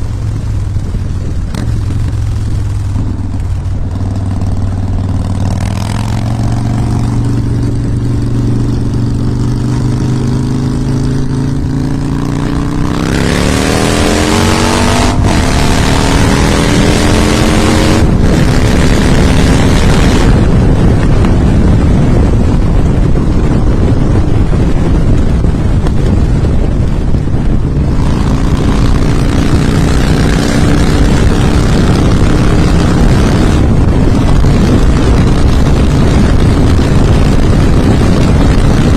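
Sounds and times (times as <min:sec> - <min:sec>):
loud rushing noise: 0:00.0 - 0:38.9
motorcycle engine running: 0:00.0 - 0:38.9.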